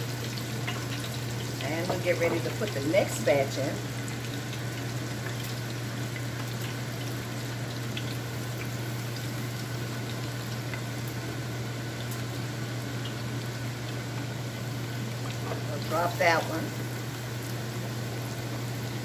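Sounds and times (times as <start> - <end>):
food bubbling on stove: 0.0 - 19.0.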